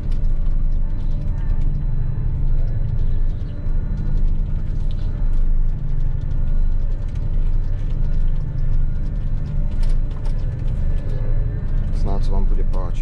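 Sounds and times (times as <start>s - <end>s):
combine engine hum: 0.0s - 13.0s
machine rattles and clicks: 0.0s - 13.0s.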